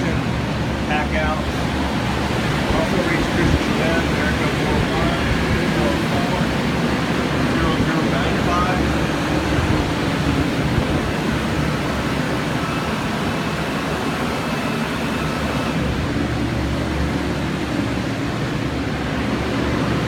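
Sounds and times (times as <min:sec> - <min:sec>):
faint high whine: 0:00.0 - 0:20.0
steady rushing noise: 0:00.0 - 0:20.0.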